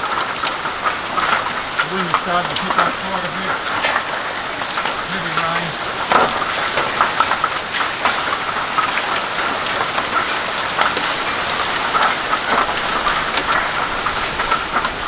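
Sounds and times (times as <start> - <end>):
hailstones striking: 0.0 - 15.0
heavy rain pouring: 0.0 - 15.0.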